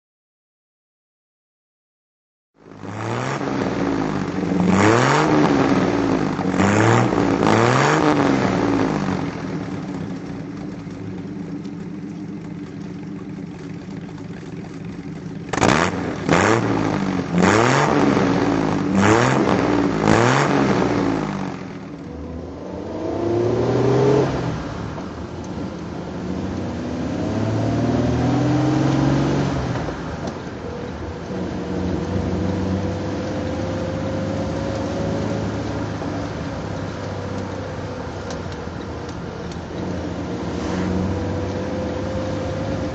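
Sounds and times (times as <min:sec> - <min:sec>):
car engine revving: 0:02.6 - 0:42.9.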